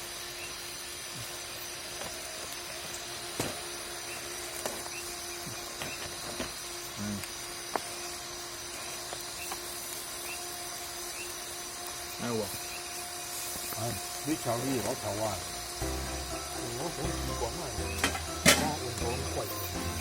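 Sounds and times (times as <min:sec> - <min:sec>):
background hiss: 0:00.0 - 0:20.0
thin high steady tones: 0:00.0 - 0:20.0
low hum: 0:02.2 - 0:20.0.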